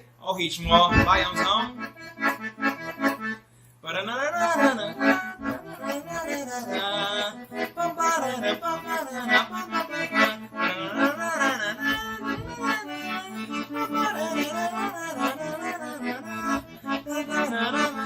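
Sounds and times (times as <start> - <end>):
accordion playing a tune: 0.6 - 18.0.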